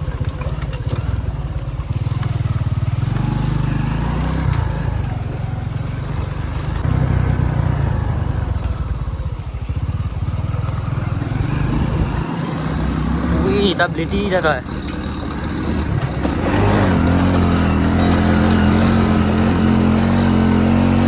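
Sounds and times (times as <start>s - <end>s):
motorbike engine running: 0.0s - 21.0s.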